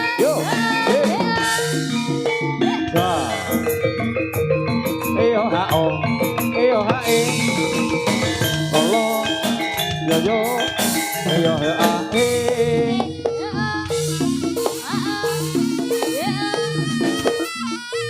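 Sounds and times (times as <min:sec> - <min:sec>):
drums beating: 0:00.0 - 0:17.6
gliding melodic line: 0:00.0 - 0:18.0
metallophone notes: 0:00.0 - 0:18.0.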